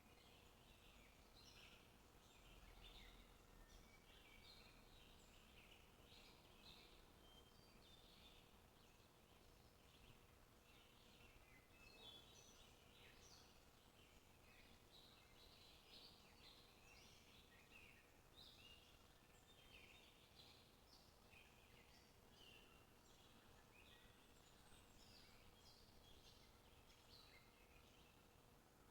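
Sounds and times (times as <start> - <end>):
faint steady hum: 0.0 - 28.9
small birds chirping: 0.0 - 28.9.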